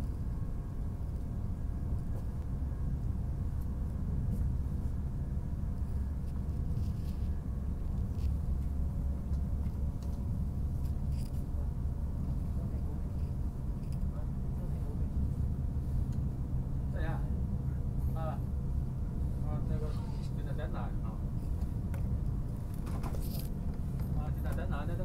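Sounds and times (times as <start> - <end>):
faint steady hum: 0.0 - 25.0
train rumble inside carriage: 0.0 - 25.0.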